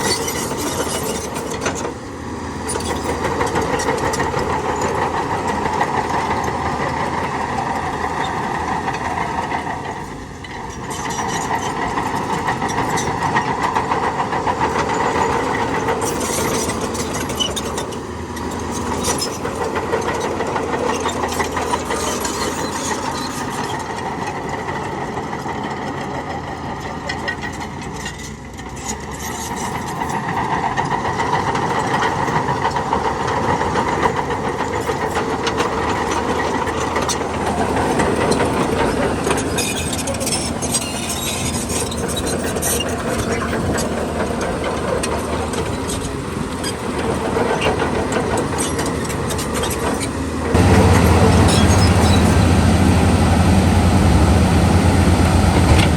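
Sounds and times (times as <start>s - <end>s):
earthmoving machinery diesel engines: 0.0s - 55.9s.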